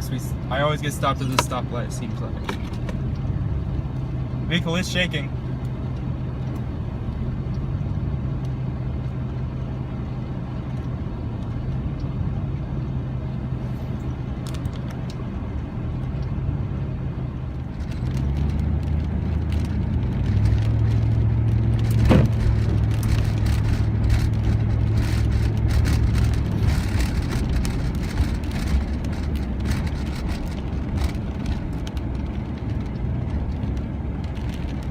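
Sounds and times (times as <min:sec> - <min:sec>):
wind gusts shaking car: 0:00.0 - 0:12.0, 0:13.2 - 0:34.9
engine and road hum: 0:00.0 - 0:34.9.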